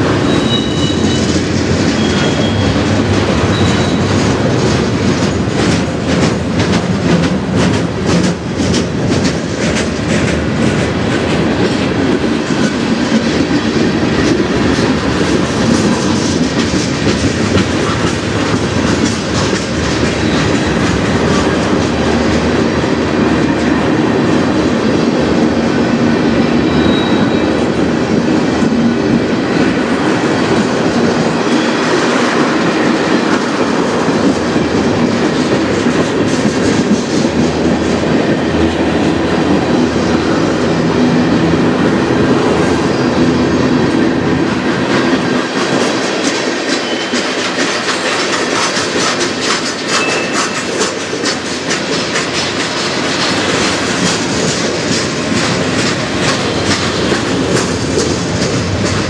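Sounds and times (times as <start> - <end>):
freight train wheels rumbling: 0.0 - 59.0
wheels clickety-clack on rail joints: 0.0 - 59.0.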